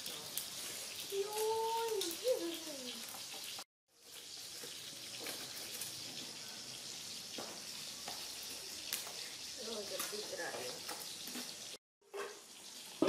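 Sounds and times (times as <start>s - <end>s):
fish sizzling on a grill: 0.0s - 13.0s.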